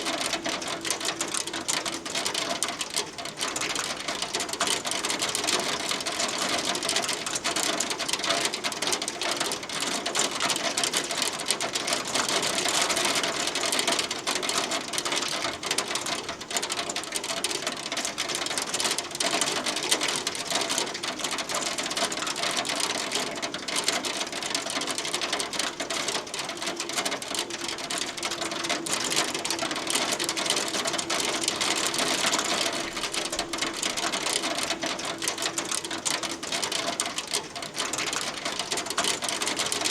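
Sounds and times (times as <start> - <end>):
hail clattering on hard surface: 0.1 - 39.9.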